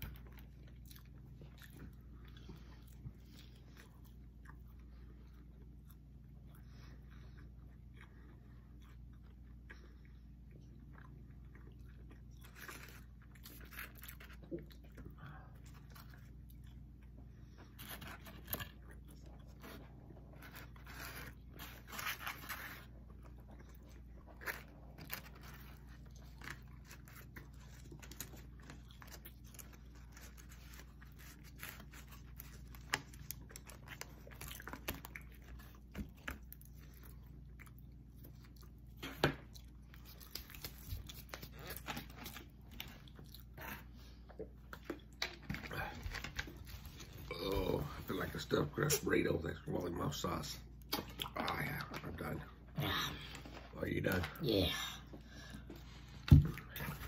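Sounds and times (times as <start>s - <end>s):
low steady hum: 0.0s - 57.0s
people chewing pizza: 0.0s - 57.0s.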